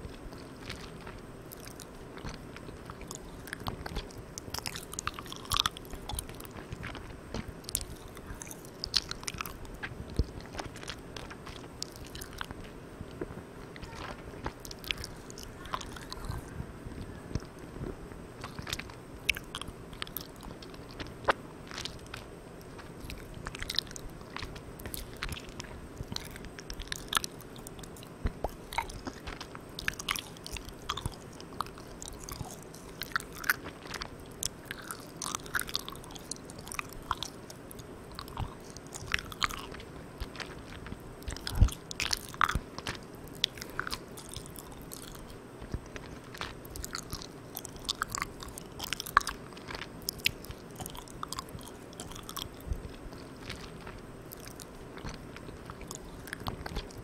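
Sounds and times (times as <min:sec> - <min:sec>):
chewing sticky candy: 0:00.0 - 0:57.0
microphone hiss: 0:00.0 - 0:57.0.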